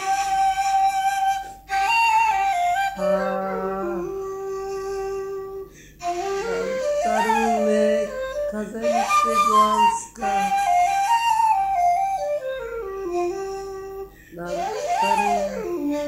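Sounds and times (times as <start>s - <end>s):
slow flute-like melody: 0.0s - 16.0s.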